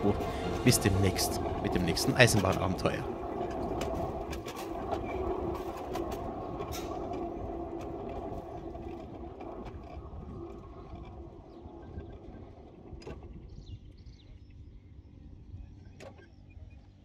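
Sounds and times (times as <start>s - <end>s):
wheels clicking on rails: 0.0s - 14.7s
miniature locomotive motor hum: 0.0s - 17.0s.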